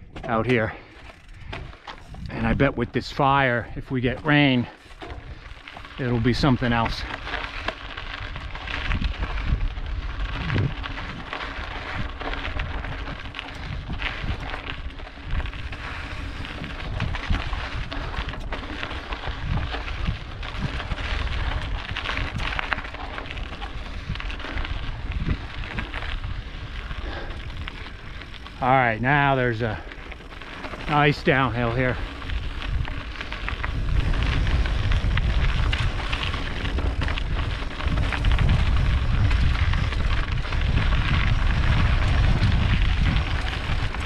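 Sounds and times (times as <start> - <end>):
bike tyres crunching on gravel: 0.0 - 44.0
wind buffeting microphone: 0.0 - 44.0.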